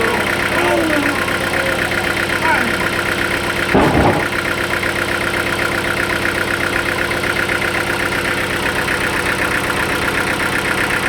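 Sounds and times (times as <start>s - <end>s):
sawmill machinery humming: 0.0s - 11.0s.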